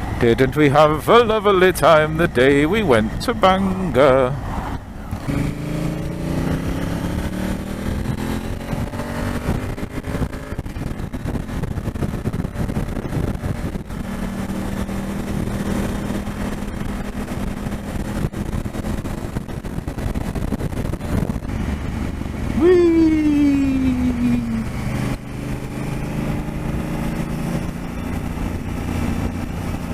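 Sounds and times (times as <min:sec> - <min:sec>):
wind rush: 0:01.3 - 0:29.9
motorcycle engine revving: 0:01.8 - 0:29.9.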